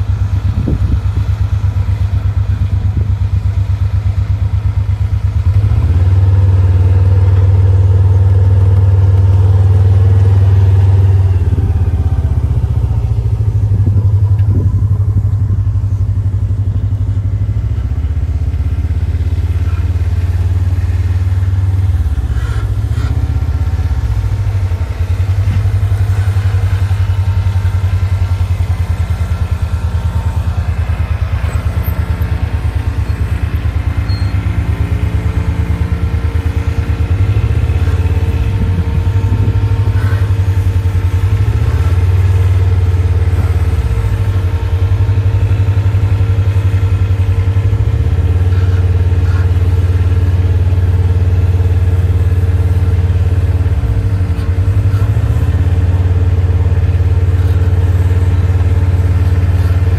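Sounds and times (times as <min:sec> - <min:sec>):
high engine tone: 0:00.0 - 0:59.9
tractor engine rumbling: 0:00.0 - 0:59.9.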